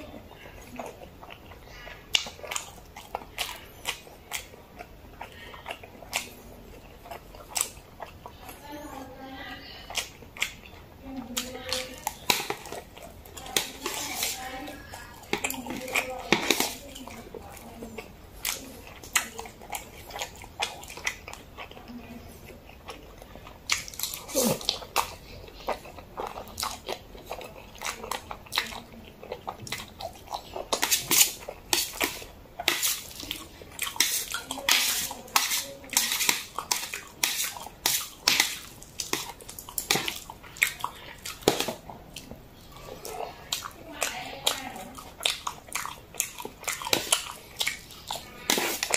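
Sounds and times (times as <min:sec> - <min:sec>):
man chewing and slurping noodles: 0:00.0 - 0:08.6, 0:09.8 - 0:48.9.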